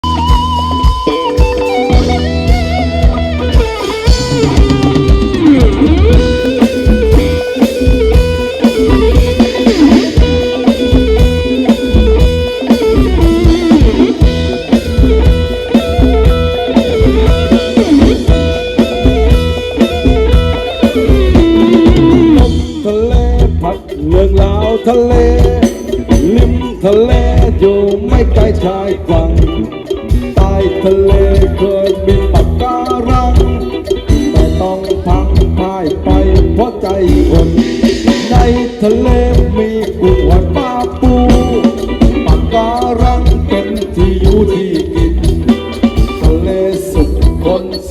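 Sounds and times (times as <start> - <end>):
instrumental band melody: 0.0 - 47.9
steady drum beat: 0.0 - 47.9.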